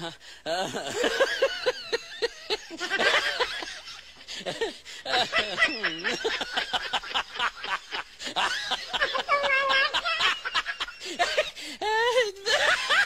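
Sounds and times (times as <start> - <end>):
people laughing and snickering: 0.0 - 13.0.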